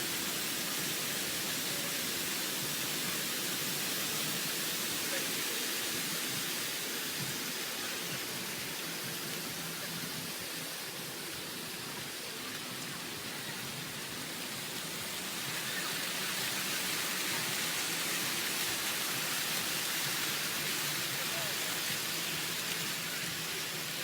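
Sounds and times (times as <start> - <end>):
fountain water spraying: 0.0 - 24.0.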